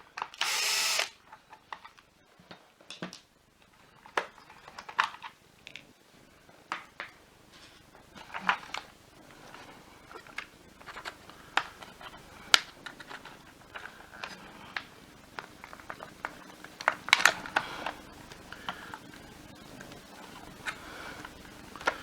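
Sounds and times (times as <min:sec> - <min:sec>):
plastic parts clicking and rattling: 0:00.0 - 0:05.9, 0:06.7 - 0:22.0.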